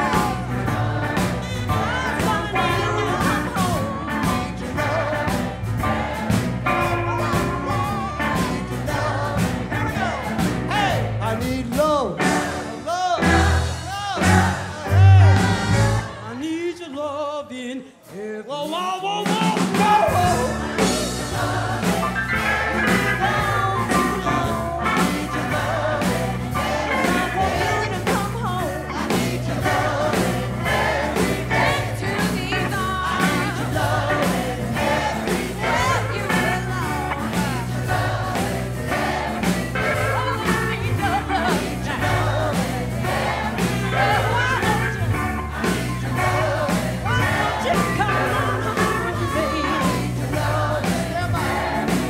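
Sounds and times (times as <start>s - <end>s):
choir singing: 0.0s - 11.5s, 12.2s - 16.9s, 19.2s - 52.0s
live band playing: 0.0s - 52.0s.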